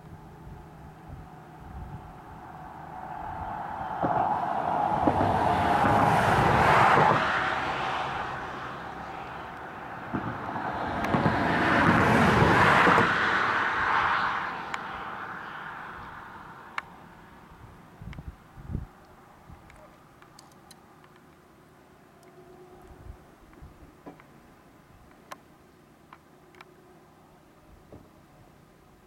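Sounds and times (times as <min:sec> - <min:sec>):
vehicles passing by: 0:00.0 - 0:29.0.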